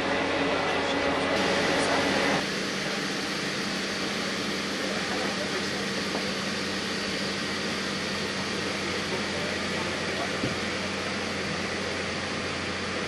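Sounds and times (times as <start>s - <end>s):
ventilation air rushing: 0.0s - 13.0s.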